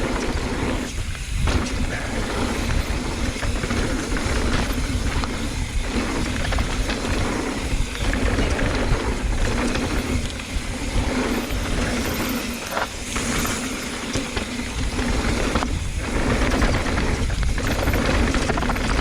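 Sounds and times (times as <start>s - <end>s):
bike clicks and rattles: 0.0s - 19.0s
tyres rumbling on dirt: 0.0s - 19.0s
wind rush on microphone: 0.0s - 19.0s.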